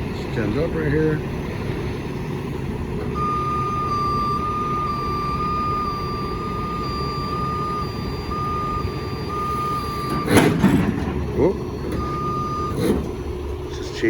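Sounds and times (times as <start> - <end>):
diesel truck engine running: 0.0 - 14.0
truck backup alarm beeping: 0.0 - 14.0.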